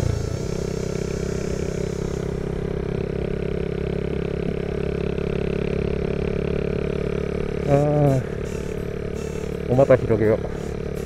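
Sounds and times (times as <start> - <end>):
small motorcycle engine cruising: 0.0 - 11.0.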